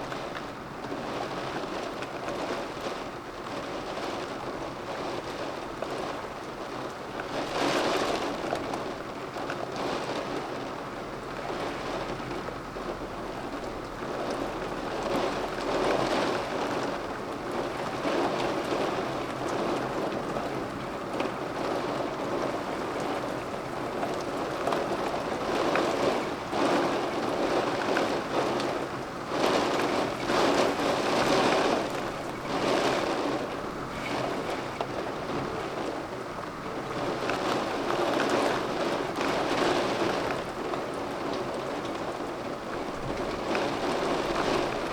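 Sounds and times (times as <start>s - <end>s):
rain in gusts: 0.0s - 44.9s.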